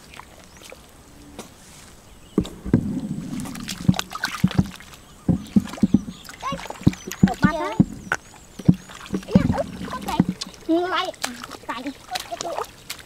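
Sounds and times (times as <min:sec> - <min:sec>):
hands sloshing in muddy water: 0:02.4 - 0:13.0.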